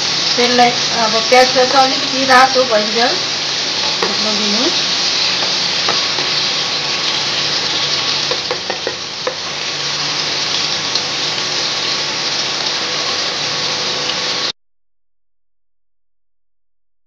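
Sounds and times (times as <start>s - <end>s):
onions sizzling in oil: 0.0s - 14.5s.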